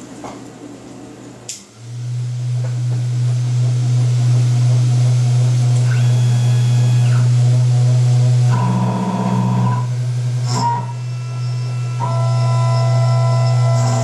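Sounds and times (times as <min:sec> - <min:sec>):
spindle low hum: 0:00.0 - 0:14.0
stepper motor whine: 0:01.8 - 0:14.0.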